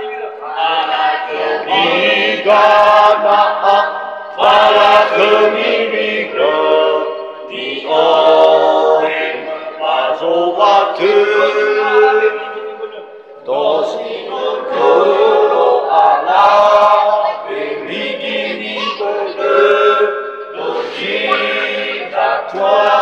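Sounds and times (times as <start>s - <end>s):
men singing a cappella chant: 0.3s - 23.0s.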